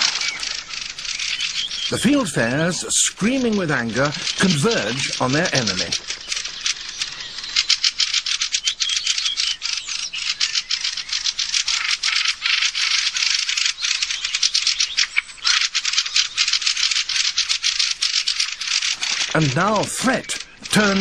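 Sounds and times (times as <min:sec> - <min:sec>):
birds chattering alarm calls: 0:00.0 - 0:21.0.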